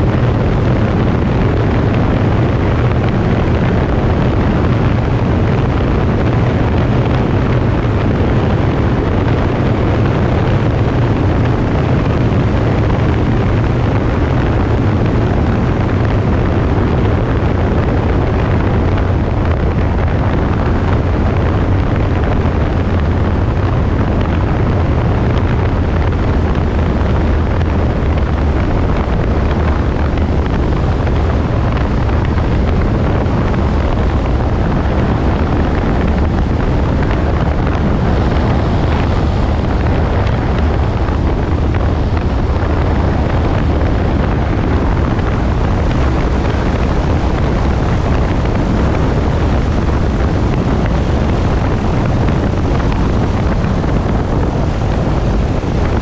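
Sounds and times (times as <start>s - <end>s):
airplane engine running: 0.0s - 56.0s
wind noise: 0.0s - 56.0s.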